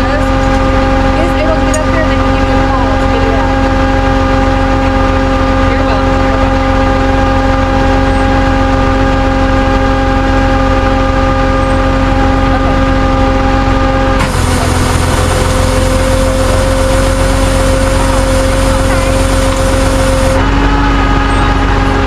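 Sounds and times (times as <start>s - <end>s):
low rumble: 0.0s - 22.0s
motor vehicle engine drone: 0.0s - 22.0s.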